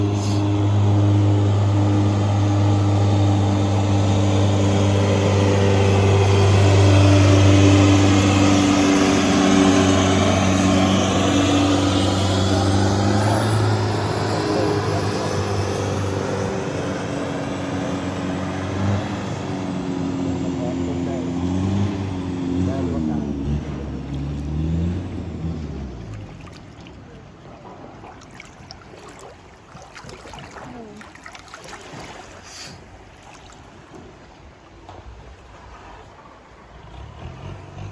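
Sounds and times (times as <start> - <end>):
boat engine droning: 0.0 - 37.9.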